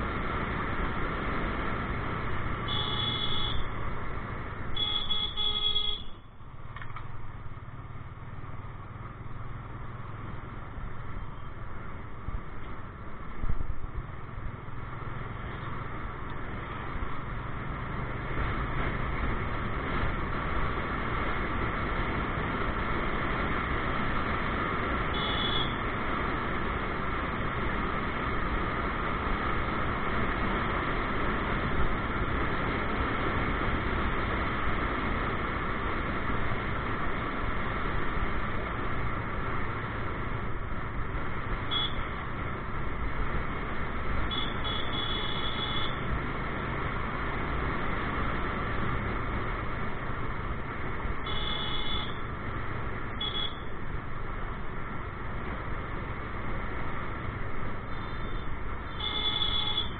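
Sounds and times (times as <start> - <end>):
motorcycle engine drone: 0.0 - 59.9
wind and road noise: 0.0 - 59.9.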